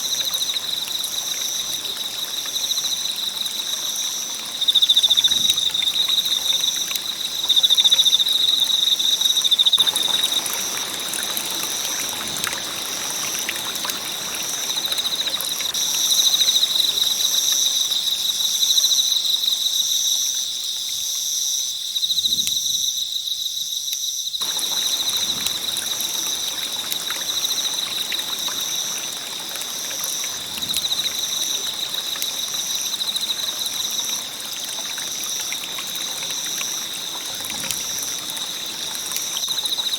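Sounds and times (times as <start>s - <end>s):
campfire crackling and hissing: 0.0s - 39.9s
insects trilling: 0.0s - 39.9s.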